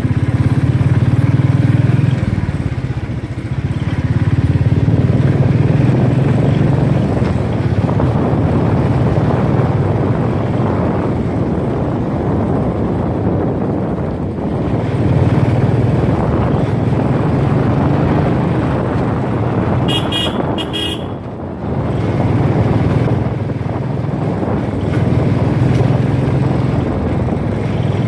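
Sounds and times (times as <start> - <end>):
motorcycle engine exhaust beat: 0.0 - 28.0.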